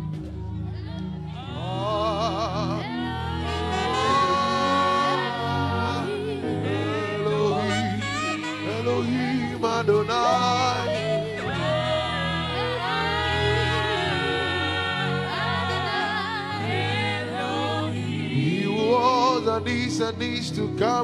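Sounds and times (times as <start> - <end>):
person singing with vibrato: 1.4 - 21.0.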